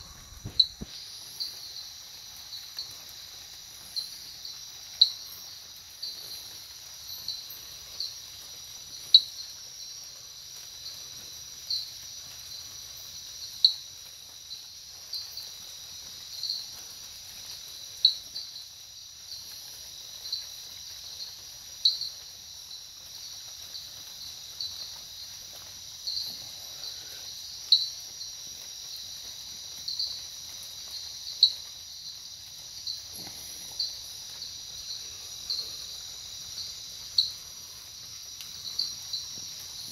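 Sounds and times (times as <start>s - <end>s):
insects trilling: 0.0s - 39.9s
loud insect chirps: 0.0s - 39.9s.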